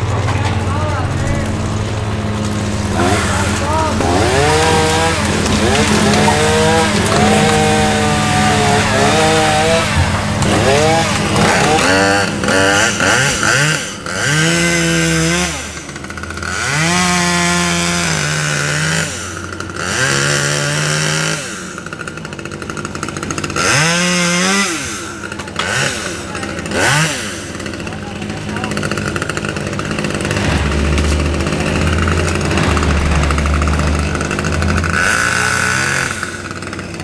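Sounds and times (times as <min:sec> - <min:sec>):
low engine hum: 0:00.0 - 0:20.5, 0:26.7 - 0:37.0
chainsaw revving: 0:00.0 - 0:37.0.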